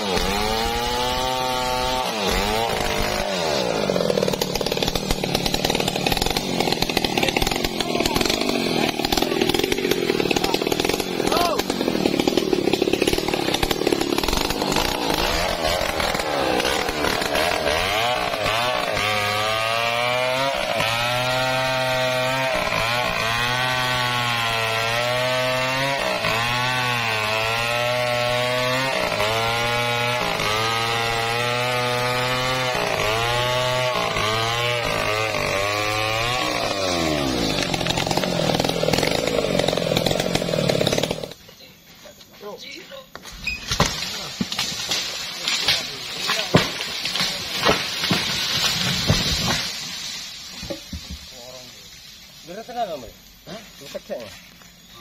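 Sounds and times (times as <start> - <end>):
chainsaw cutting wood: 0.0 - 41.4, 43.2 - 51.6.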